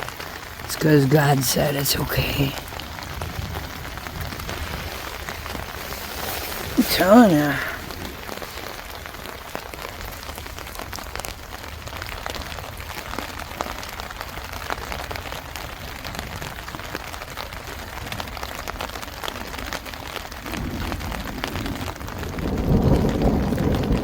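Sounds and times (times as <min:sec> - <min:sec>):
rain on a tent: 0:00.0 - 0:24.0.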